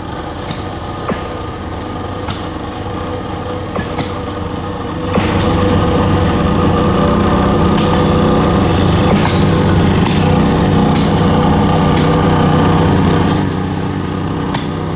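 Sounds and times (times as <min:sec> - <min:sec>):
machinery engine drone: 0:00.0 - 0:14.9.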